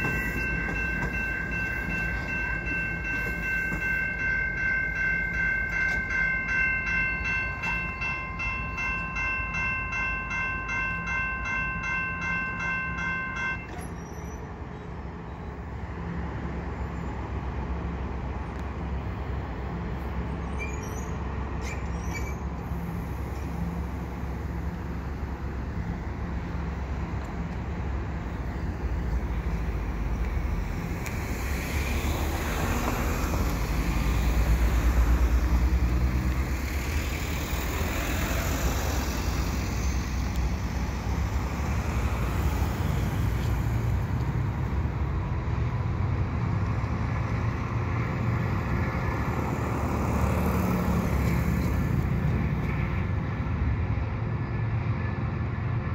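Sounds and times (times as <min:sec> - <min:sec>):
diesel locomotive rumbling: 0:00.0 - 0:55.9.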